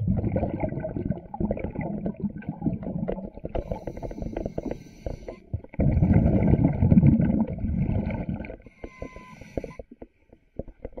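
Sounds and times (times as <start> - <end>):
underwater exhaled bubbles: 0.0 - 9.9.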